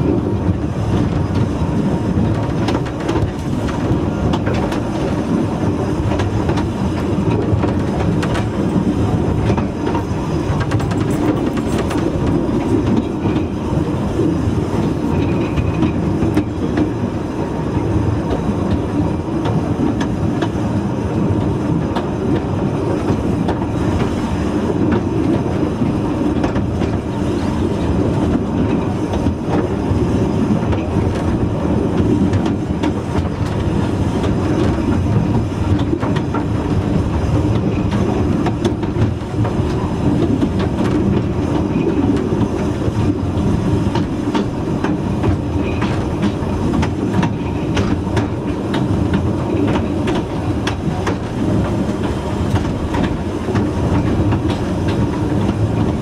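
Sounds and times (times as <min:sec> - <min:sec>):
railway coach rumbling on track: 0:00.0 - 0:56.0
wheels clicking on rails: 0:00.0 - 0:56.0.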